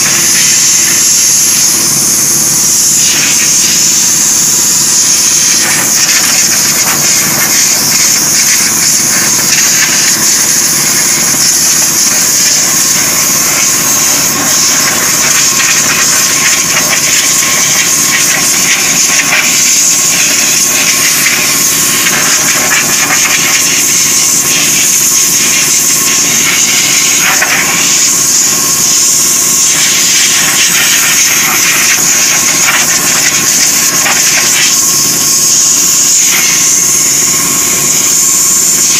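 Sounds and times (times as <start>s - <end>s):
air compressor hissing: 0.0s - 38.9s
faint steady whine: 0.0s - 38.9s.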